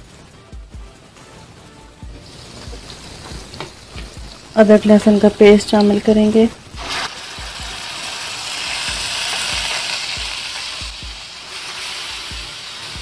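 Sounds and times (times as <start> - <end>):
paste sizzling in hot oil: 2.2 - 13.0.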